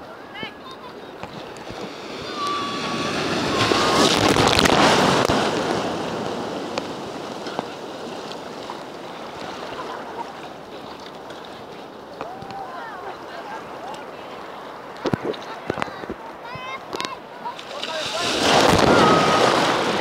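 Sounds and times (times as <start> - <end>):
wash of surf: 0.1 - 20.0
sea wave breaking: 1.3 - 16.0, 17.4 - 20.0.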